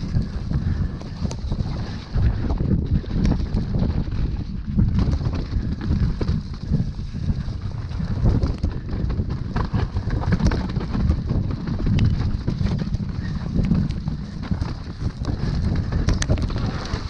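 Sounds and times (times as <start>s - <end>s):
bike knocks and clatters: 0.0s - 17.0s
low rumble: 0.0s - 17.0s
wind buffeting microphone: 0.0s - 17.0s.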